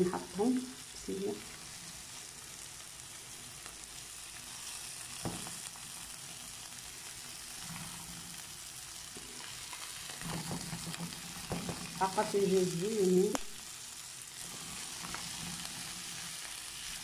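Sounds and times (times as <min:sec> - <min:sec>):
onions sizzling in a frying pan: 0:00.0 - 0:17.0.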